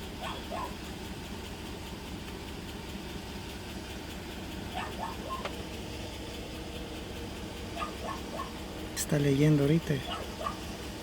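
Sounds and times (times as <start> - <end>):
engine idling with low rumble: 0.0 - 11.0.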